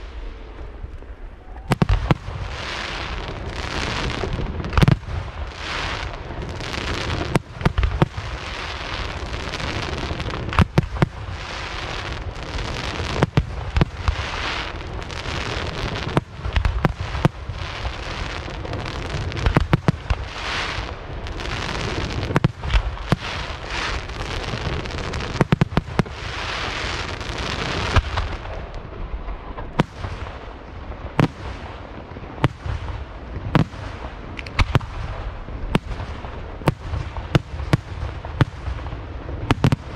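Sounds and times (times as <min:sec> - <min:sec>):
firework bangs: 0:00.0 - 0:39.9
firework crackle: 0:00.0 - 0:39.9.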